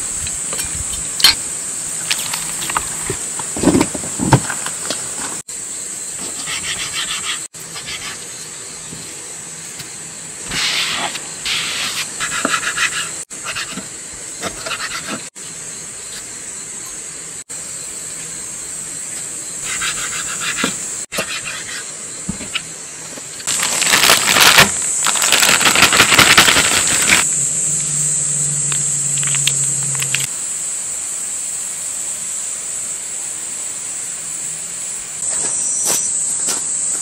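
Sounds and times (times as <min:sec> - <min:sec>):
crickets chirring: 0:00.0 - 0:37.0.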